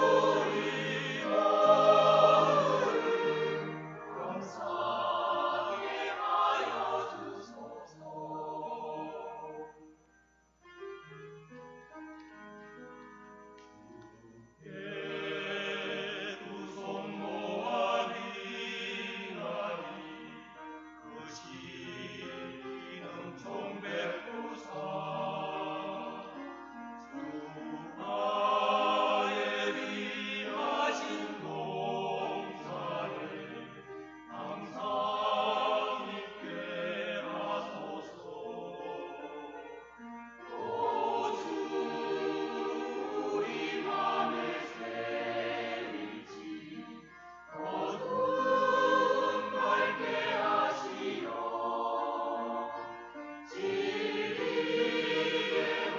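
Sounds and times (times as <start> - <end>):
choir singing a hymn: 0.0 - 10.5, 13.5 - 55.9.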